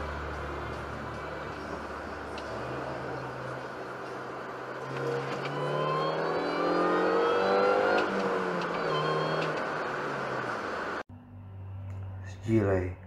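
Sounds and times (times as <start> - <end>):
car engine accelerating: 0.0 - 12.9
road noise: 0.0 - 13.0.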